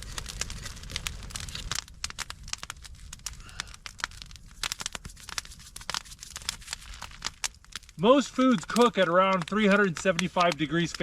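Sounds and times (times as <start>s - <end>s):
campfire coals crackling: 0.0s - 11.0s.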